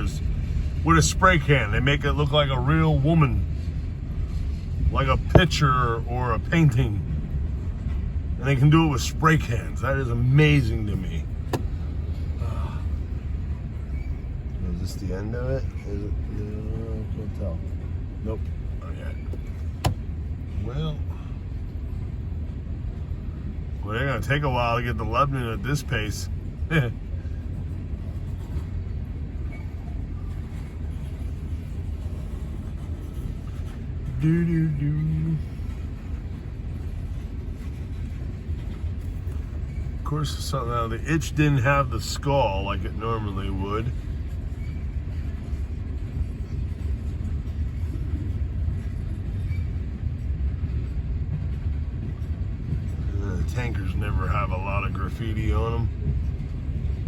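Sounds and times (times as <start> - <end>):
freight train cars rolling: 0.0 - 57.0.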